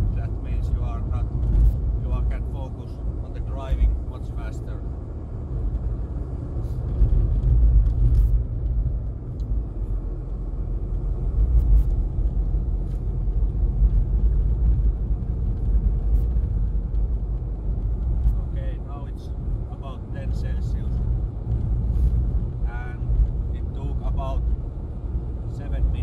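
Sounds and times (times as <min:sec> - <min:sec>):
car cabin engine rumble: 0:00.0 - 0:26.0
road noise: 0:00.0 - 0:26.0.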